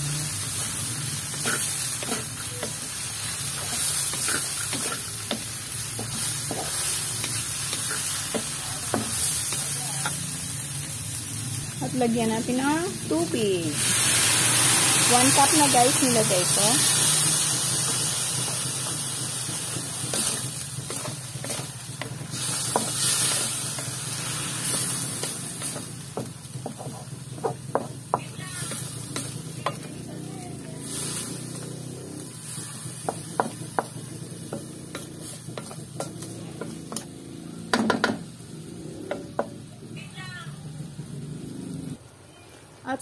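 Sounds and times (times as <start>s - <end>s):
spatula scraping wok: 0.0s - 39.9s
sizzling pan: 0.0s - 43.0s
spatula knocking wok: 0.2s - 11.2s, 15.0s - 39.9s.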